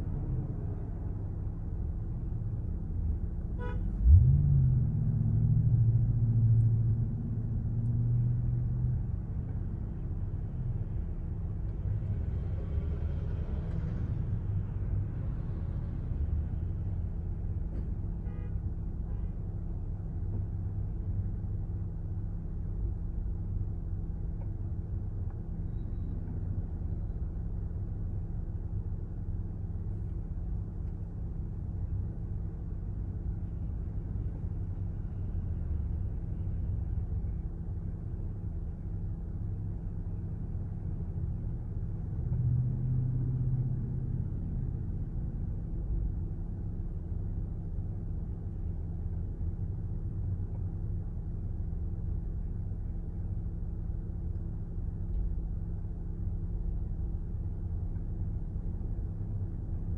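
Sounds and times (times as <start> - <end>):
vehicle engine rumbling and revving: 0.0 - 59.9.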